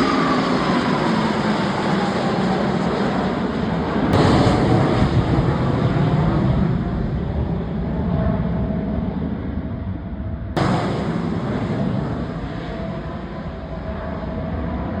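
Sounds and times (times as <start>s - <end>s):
fighter jets passing overhead: 0.0s - 15.0s.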